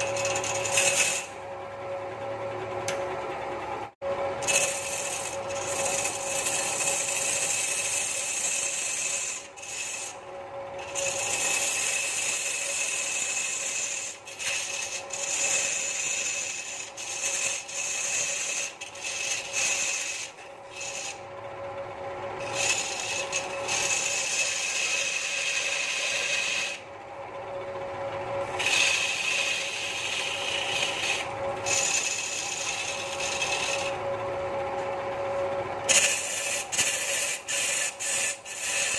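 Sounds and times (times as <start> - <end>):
turning tool scraping wood: 0.0 - 1.5, 4.3 - 38.9
wood lathe humming: 0.0 - 38.9.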